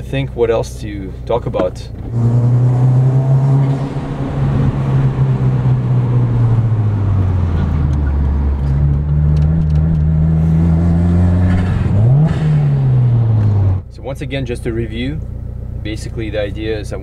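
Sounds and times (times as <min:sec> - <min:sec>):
car engine from inside cabin: 0:00.0 - 0:17.0.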